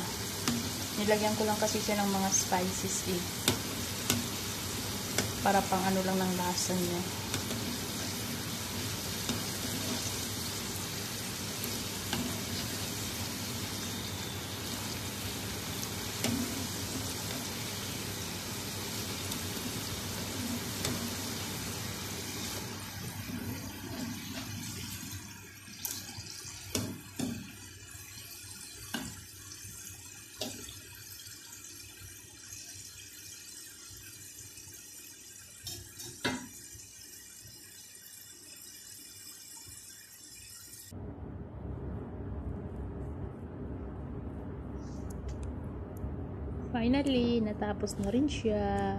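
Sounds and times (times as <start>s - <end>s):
potato deep-frying in hot oil: 0.0s - 40.9s.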